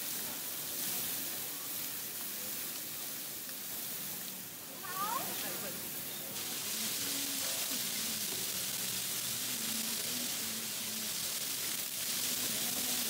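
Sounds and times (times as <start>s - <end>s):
chicken skewers sizzling on griddle: 0.0s - 13.0s.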